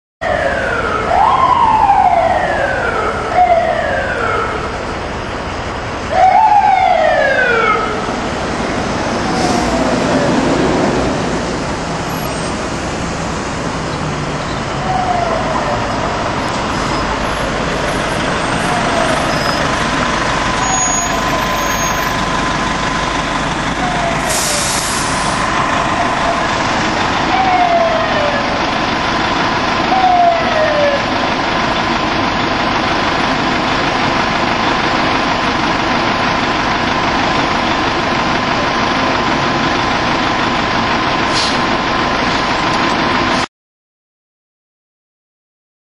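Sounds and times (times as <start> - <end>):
fire engine siren whooping: 0.2 - 12.7, 13.4 - 43.4
low engine rumble: 0.3 - 43.4.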